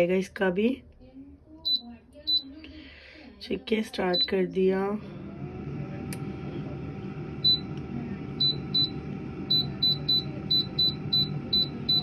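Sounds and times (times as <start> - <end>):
fan humming: 1.7 - 12.0.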